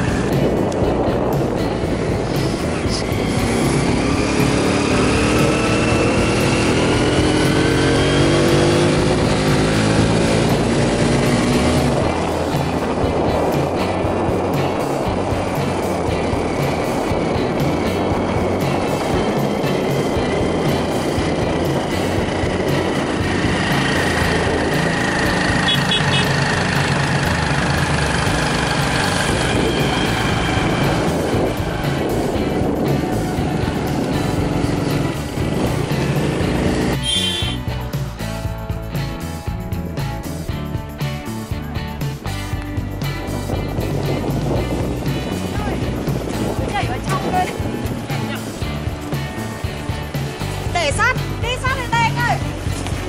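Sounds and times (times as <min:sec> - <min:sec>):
road and wind noise: 0:00.0 - 0:53.0
vehicle engine running: 0:00.0 - 0:53.0.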